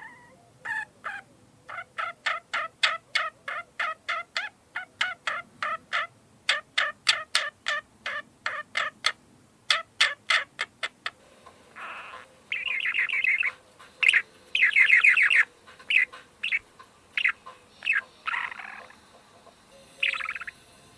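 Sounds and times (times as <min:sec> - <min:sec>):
parakeet chirping and chattering: 0:00.0 - 0:20.8.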